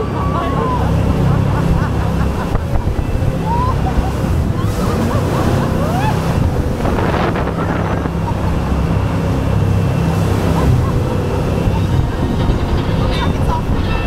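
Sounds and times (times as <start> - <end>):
rushing water and spray: 0.0 - 13.8
wind buffeting microphone: 0.7 - 14.0.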